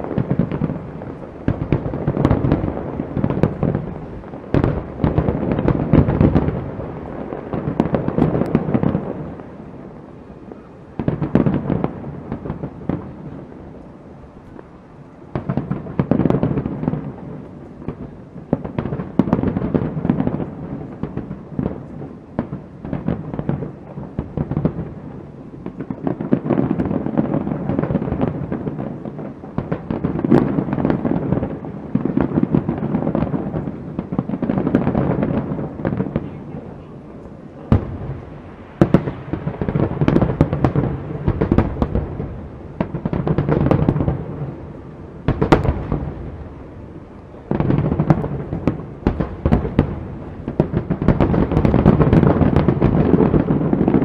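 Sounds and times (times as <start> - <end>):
fireworks bursting and crackling: 0.0 - 54.0
sharp firework cracks: 0.0 - 54.0.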